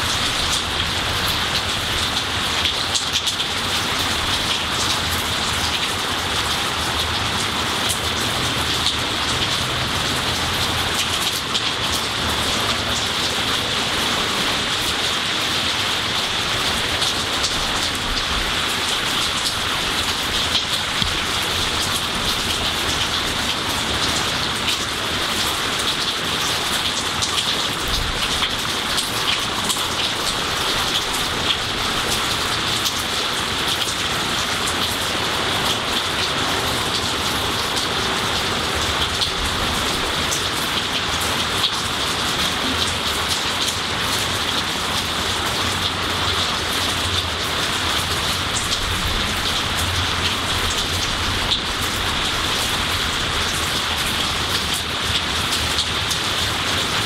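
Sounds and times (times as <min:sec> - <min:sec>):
rain on foliage: 0:00.0 - 0:57.0
raindrops ticking close by: 0:00.0 - 0:57.0.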